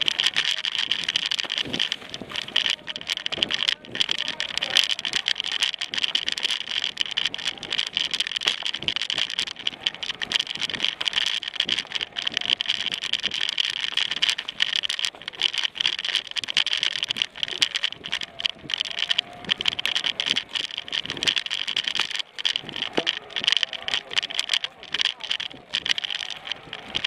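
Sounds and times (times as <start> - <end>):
mountain bike rattling over dirt: 0.0 - 27.0.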